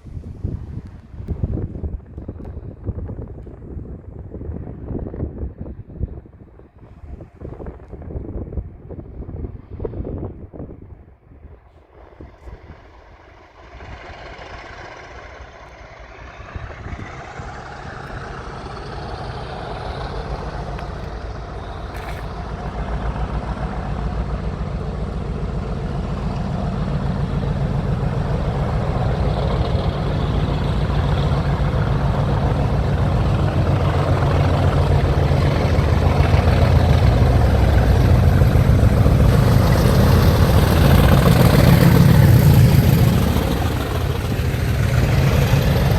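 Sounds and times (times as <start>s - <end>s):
diesel locomotive engines rumbling: 0.0s - 45.9s.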